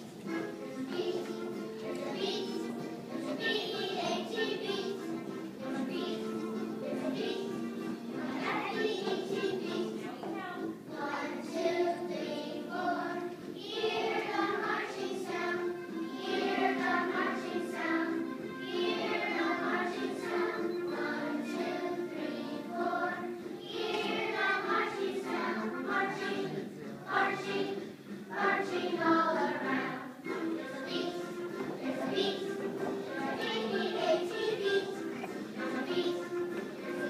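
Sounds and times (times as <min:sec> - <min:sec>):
children's choir singing: 0:00.0 - 0:37.0.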